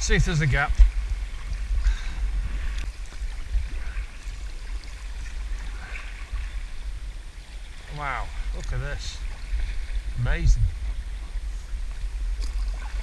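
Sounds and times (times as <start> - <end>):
steady low rumble: 0.0 - 13.0
water splashing around kayak: 0.0 - 13.0.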